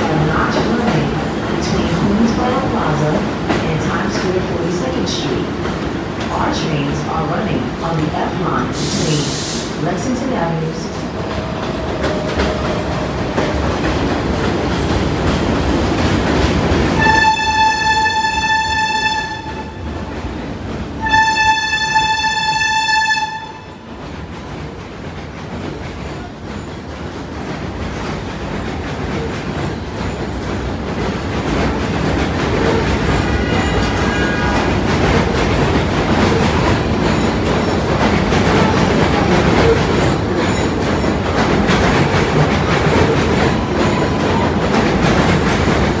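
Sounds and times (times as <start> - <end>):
subway train rumbling past: 0.0 - 46.0.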